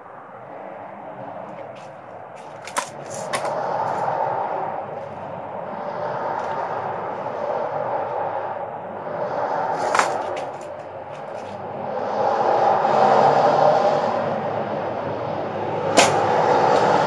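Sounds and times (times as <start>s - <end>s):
steady noise: 0.0s - 17.0s.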